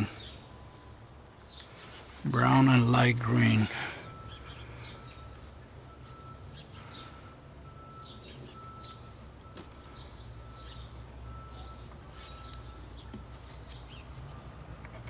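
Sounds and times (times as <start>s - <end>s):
birds chirping: 0.0s - 14.5s.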